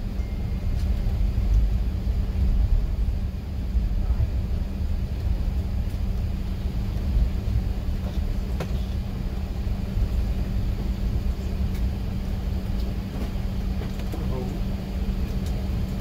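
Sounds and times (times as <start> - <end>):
airliner cabin rumble and hum: 0.0 - 16.0.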